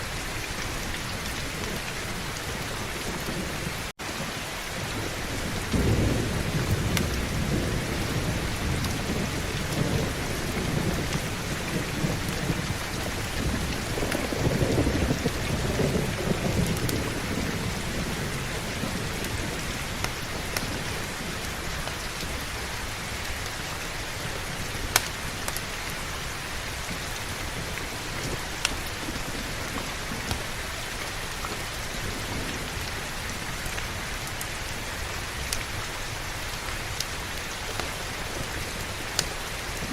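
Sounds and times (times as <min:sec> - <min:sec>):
heavy rain: 0:00.0 - 0:39.9
low rumble of thunder: 0:00.0 - 0:39.9.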